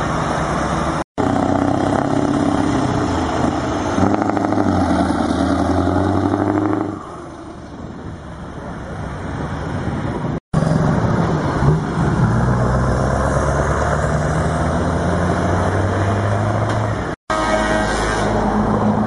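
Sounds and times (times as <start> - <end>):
truck diesel engine driving past: 0.0 - 8.4, 10.6 - 19.0.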